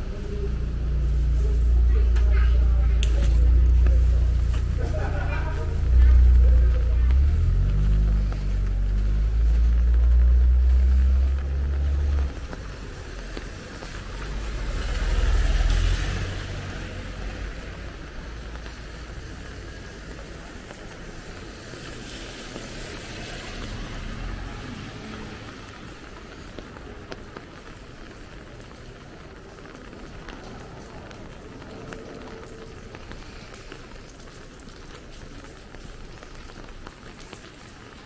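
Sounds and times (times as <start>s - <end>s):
vehicle engine rumbling: 0.0s - 37.4s
car passing on wet street: 0.0s - 38.0s
rain hissing: 0.0s - 38.0s.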